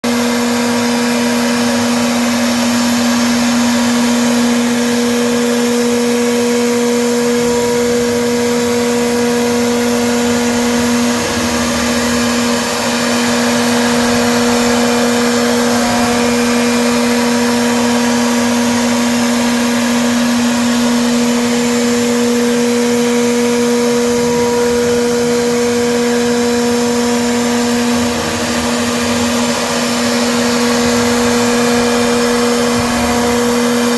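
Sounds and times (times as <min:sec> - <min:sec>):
machine spindle whine: 0:00.0 - 0:33.9.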